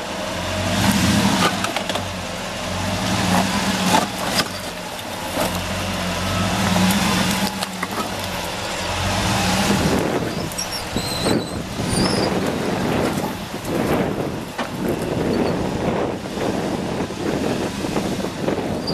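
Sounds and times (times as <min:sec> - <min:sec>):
truck engine running: 0:00.0 - 0:18.9
rocks crunching under tires: 0:02.8 - 0:18.9.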